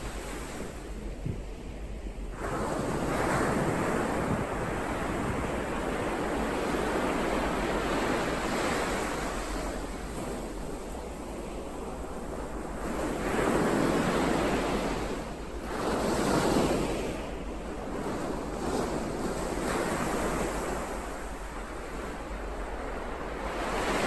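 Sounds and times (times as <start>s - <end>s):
ocean waves breaking on shore: 0.0s - 24.0s.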